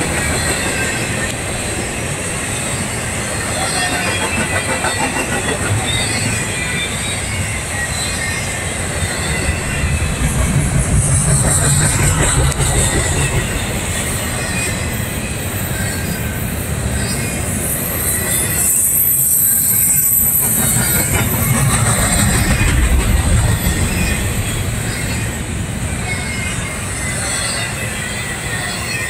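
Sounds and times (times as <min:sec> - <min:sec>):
freight train wheels rumbling: 0:00.0 - 0:29.0
high wheel squeal: 0:00.0 - 0:29.0.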